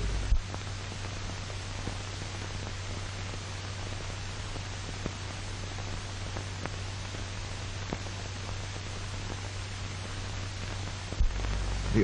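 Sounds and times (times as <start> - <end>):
faint crackles: 0.0 - 12.0
film soundtrack hiss and hum: 0.0 - 12.0.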